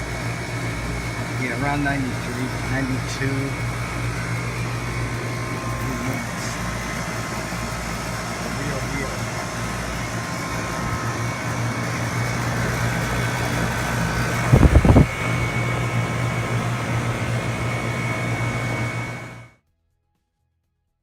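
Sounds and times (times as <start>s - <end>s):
thin high whine: 0.0s - 19.5s
air conditioning unit humming: 0.0s - 19.6s.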